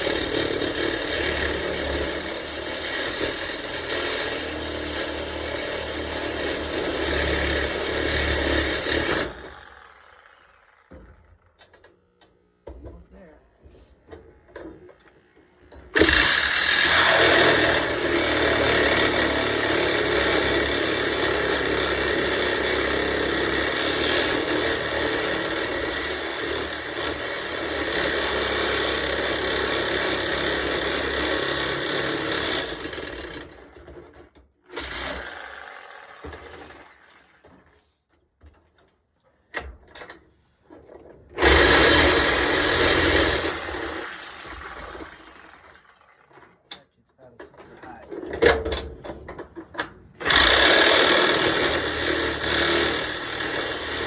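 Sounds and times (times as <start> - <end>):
power saw cutting steel bolt: 0.0 - 12.6, 14.1 - 37.7, 39.6 - 54.0.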